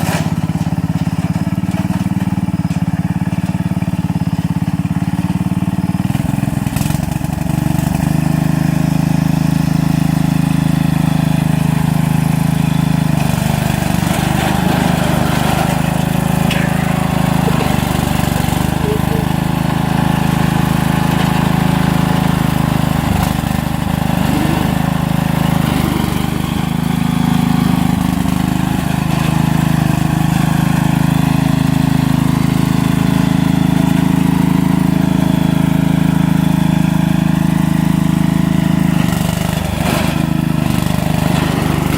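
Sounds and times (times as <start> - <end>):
riding mower engine running: 0.0 - 41.9.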